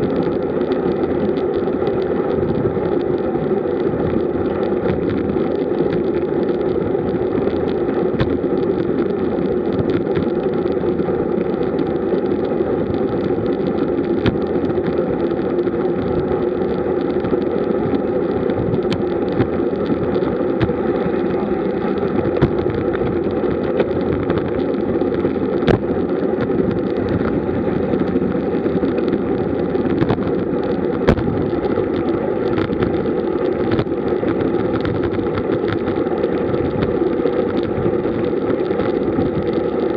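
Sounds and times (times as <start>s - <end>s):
bike tyre noise: 0.0s - 39.9s.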